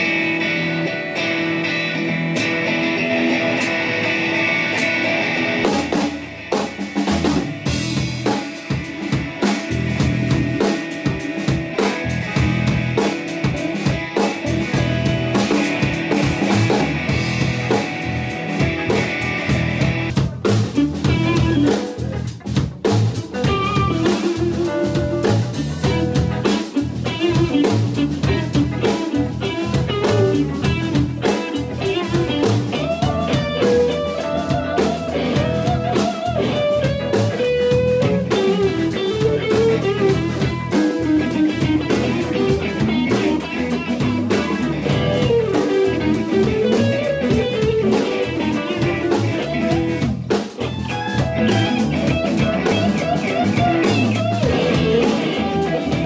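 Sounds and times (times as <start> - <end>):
instrumental rock band playing: 0.0 - 56.0.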